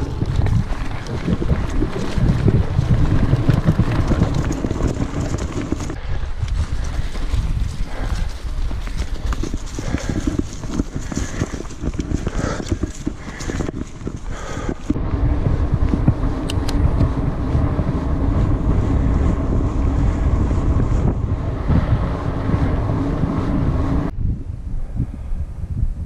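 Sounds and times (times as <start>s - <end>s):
bike rattling over dirt: 0.0s - 24.1s
tyres rolling on pavement: 0.0s - 24.1s
wind buffeting microphone: 0.0s - 26.0s.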